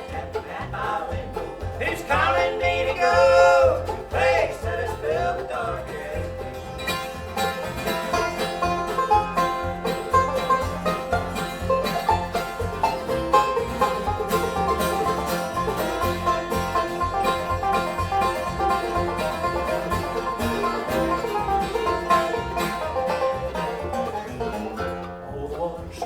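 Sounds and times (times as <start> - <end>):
bluegrass band playing: 0.0 - 26.0
picked banjo notes: 0.0 - 26.0.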